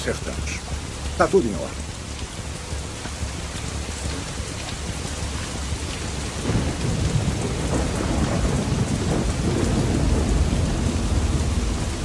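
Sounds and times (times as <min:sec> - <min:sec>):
heavy rain pouring: 0:00.0 - 0:12.0
thunder rumbling: 0:00.0 - 0:12.0.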